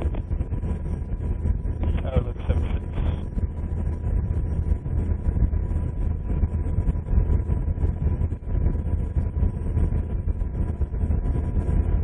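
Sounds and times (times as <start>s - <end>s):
helicopter rotor drone: 0.0s - 12.0s
turbine whine: 0.0s - 12.0s.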